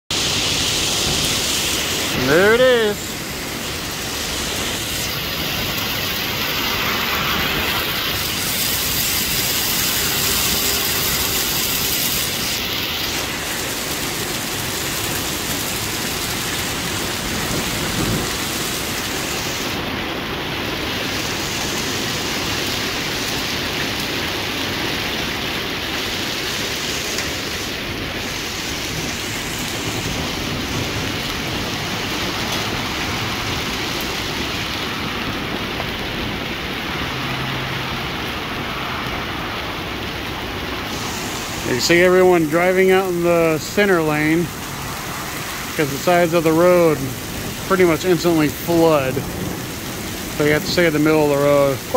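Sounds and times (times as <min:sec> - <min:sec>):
hail and heavy rain on pavement: 0:00.1 - 0:51.9.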